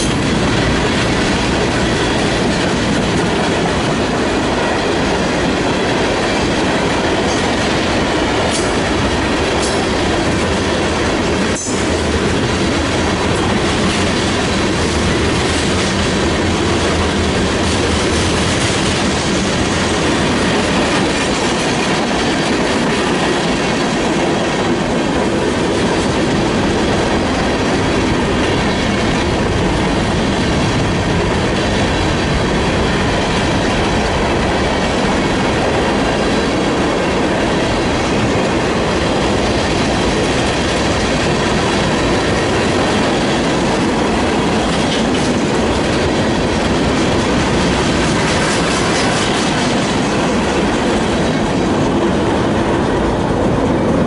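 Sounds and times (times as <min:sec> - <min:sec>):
clickety-clack at rail joints: 0:00.0 - 0:54.0
train wheels rumbling on rails: 0:00.0 - 0:54.0.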